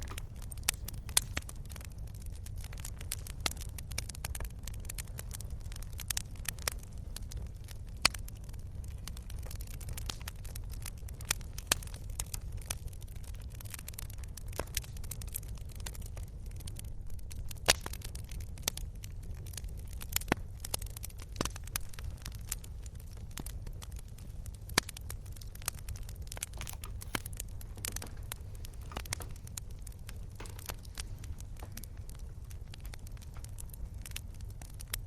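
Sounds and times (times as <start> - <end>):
low rumble of burning fire: 0.0 - 35.0.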